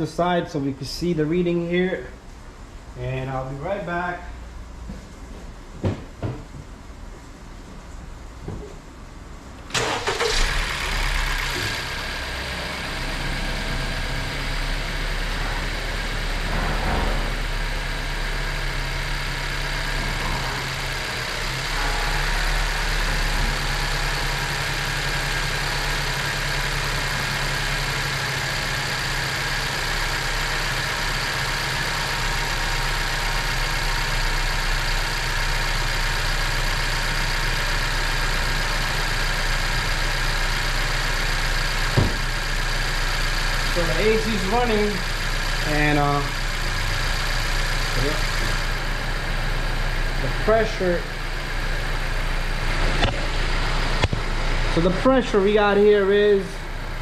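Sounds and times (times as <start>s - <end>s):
car engine idling: 9.4s - 57.0s
car engine starting: 9.6s - 57.0s.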